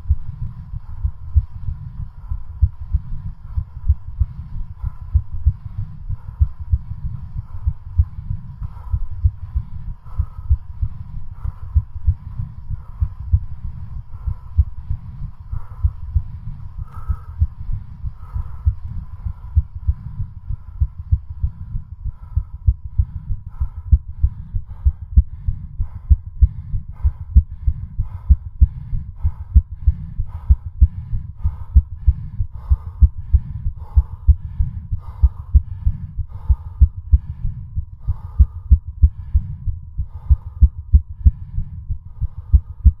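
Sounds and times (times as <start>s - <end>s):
fast heartbeat thumps: 0.0s - 43.0s.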